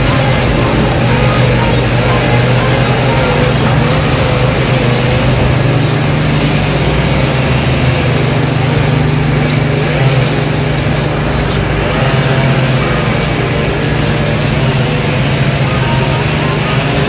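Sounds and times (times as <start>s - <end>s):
grass trimmers running: 0.0s - 17.0s
ride-on lawn mower running: 0.0s - 17.0s.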